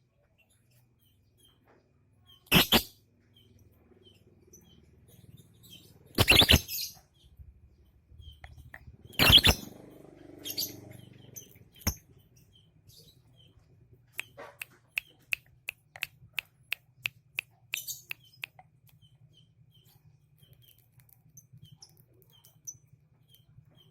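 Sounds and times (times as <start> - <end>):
bird chirping: 0.1 - 16.1, 17.0 - 23.9.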